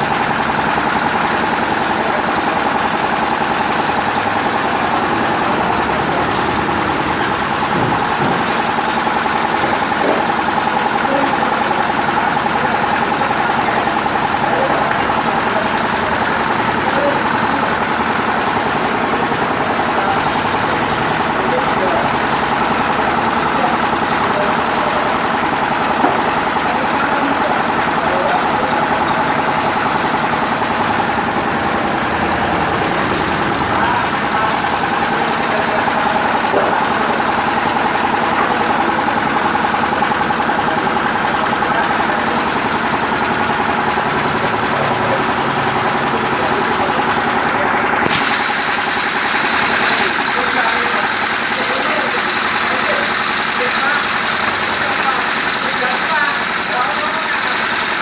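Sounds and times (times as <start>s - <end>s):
paving machine mechanical din: 0.0s - 58.0s.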